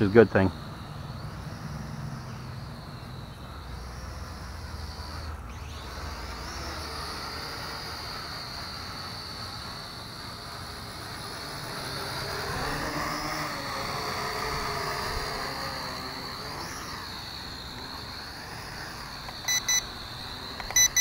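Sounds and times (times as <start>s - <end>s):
toy drone propellers whining: 0.0s - 21.0s.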